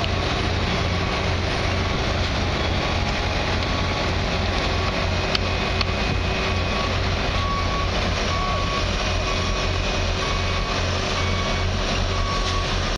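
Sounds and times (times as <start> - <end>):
diesel engines running: 0.0 - 12.9
truck reversing alarm beeping: 0.0 - 12.9.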